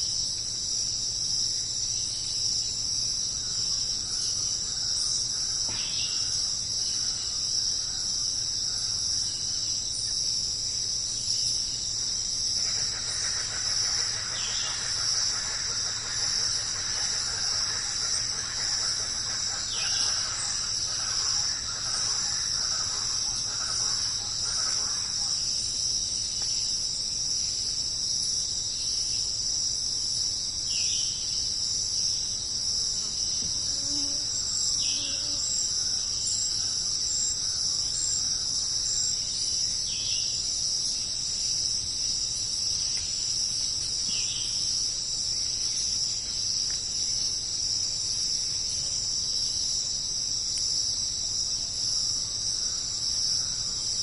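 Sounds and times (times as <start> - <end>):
insect chorus shrill trill: 0.0 - 54.0.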